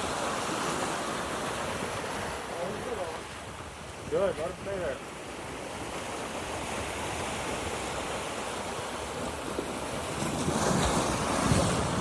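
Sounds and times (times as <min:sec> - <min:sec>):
surf washing on beach: 0:00.0 - 0:12.0.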